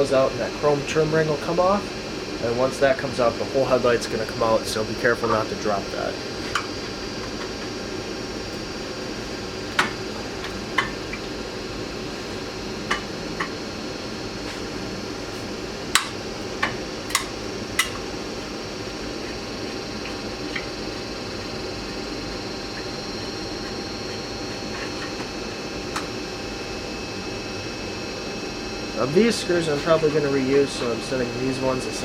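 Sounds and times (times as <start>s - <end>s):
steady background hum: 0.0s - 32.0s.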